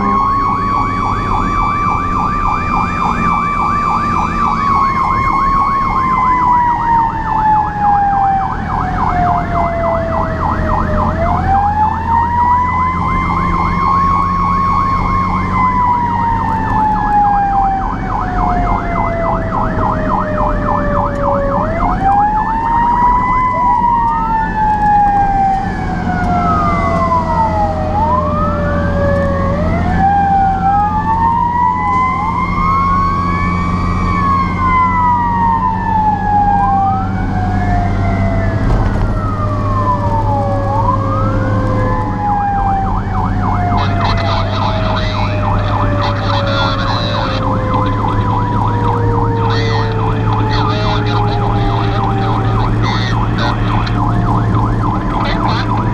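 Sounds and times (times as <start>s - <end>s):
rapid warbling siren yelp: 0.0s - 38.6s, 39.2s - 55.9s
fire truck siren wailing: 0.0s - 55.9s
second siren sweeping fast: 0.0s - 55.9s
truck engine droning: 0.0s - 55.9s.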